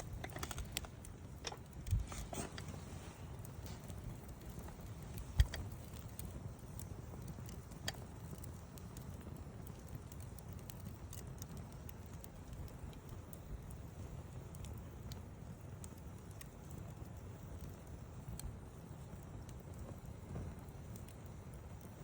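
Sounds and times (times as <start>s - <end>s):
campfire crackling: 0.0s - 22.0s
fire popping: 0.0s - 22.0s.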